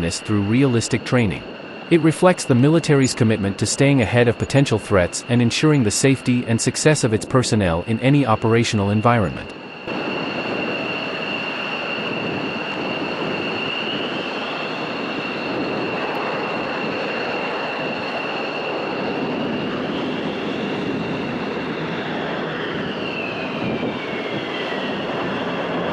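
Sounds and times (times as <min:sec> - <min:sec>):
helicopter turbine whine: 0:00.0 - 0:25.9.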